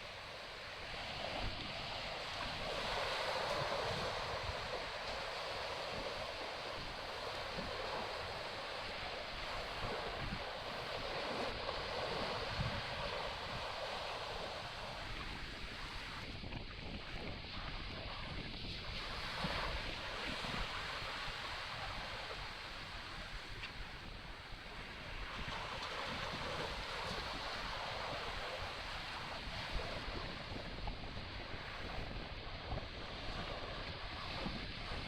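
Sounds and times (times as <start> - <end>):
wind and waves rushing: 0.0 - 35.0
wind buffeting microphone: 0.0 - 35.0.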